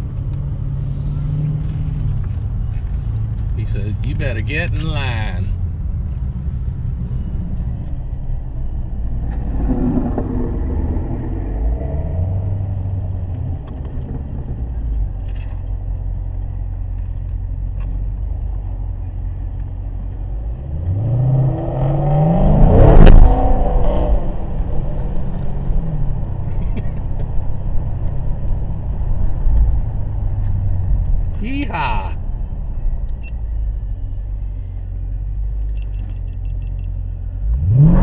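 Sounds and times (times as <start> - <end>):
car engine droning and revving: 0.0 - 38.0.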